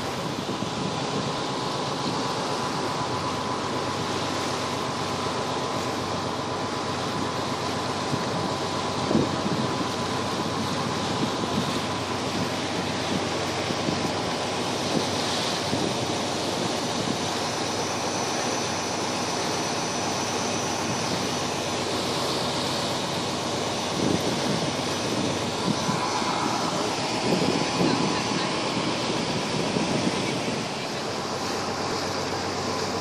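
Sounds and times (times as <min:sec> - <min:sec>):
boat engine running: 0:00.0 - 0:33.0
rush of wind and water: 0:00.0 - 0:33.0.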